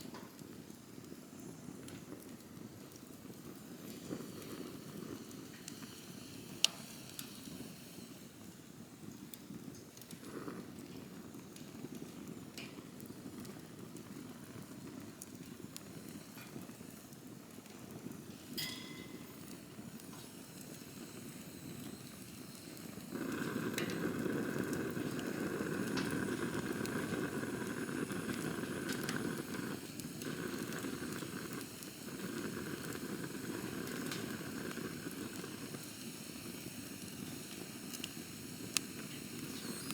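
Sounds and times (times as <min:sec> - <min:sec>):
fire crackles and pops: 0:00.0 - 0:39.9
fire hissing: 0:00.0 - 0:39.9
campfire flame rushing: 0:00.3 - 0:39.9.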